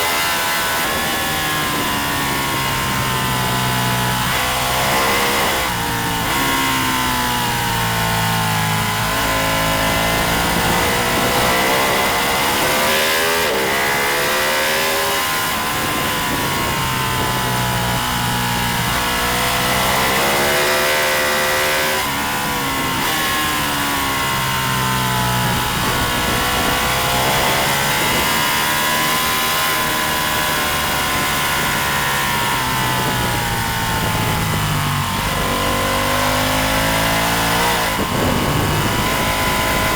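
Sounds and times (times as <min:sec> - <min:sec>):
racing motorcycle engine: 0:00.0 - 0:39.9
rushing wind: 0:00.0 - 0:39.9.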